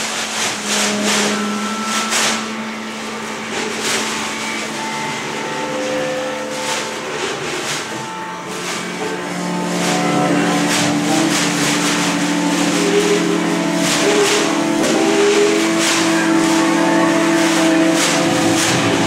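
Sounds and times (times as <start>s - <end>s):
clarinet droning notes: 0.0s - 19.0s
saxophone droning notes: 0.0s - 19.0s.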